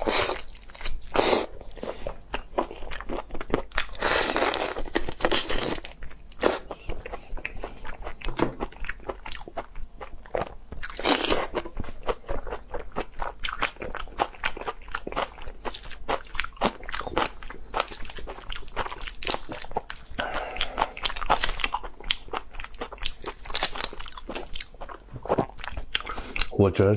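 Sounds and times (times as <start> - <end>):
crunchy bites and chewing: 0.0 - 26.6.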